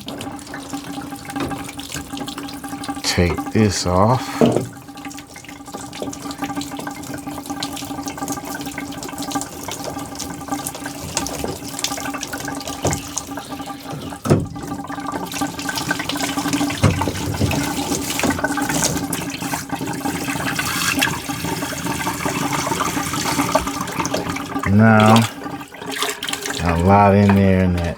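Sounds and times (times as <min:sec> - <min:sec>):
water running from pipe: 0:00.0 - 0:27.9.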